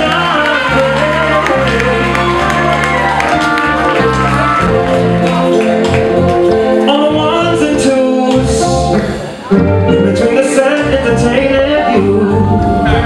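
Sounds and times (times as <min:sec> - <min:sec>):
live band playing: 0:00.0 - 0:13.0
person singing: 0:00.0 - 0:13.0.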